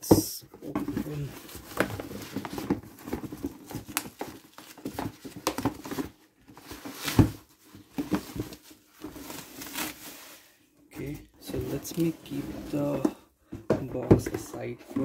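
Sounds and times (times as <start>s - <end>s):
cardboard tapping and rustling: 0.0s - 10.1s, 11.5s - 15.0s.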